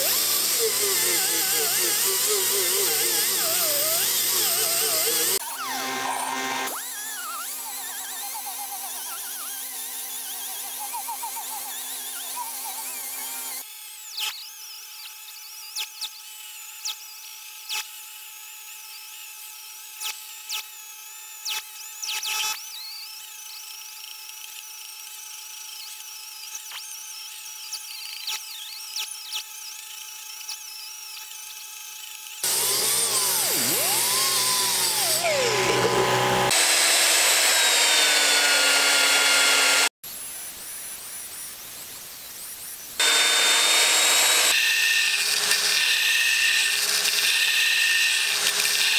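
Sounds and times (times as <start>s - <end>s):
die grinder high whine: 0.0s - 40.0s, 40.7s - 48.9s.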